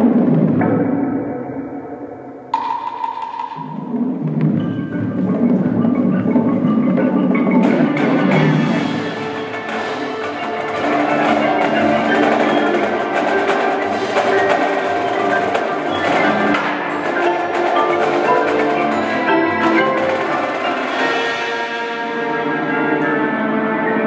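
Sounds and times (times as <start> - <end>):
marimbas playing layered notes: 0.8 - 24.0
marching drum strokes: 2.5 - 23.2.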